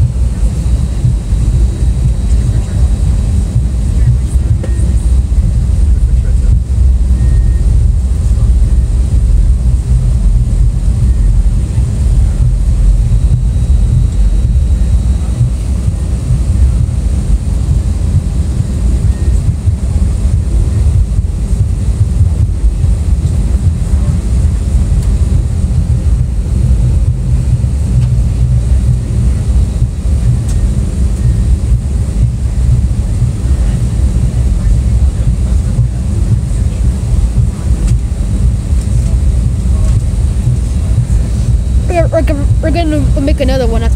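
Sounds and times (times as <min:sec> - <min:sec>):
airliner engines rumbling: 0:00.0 - 0:43.9.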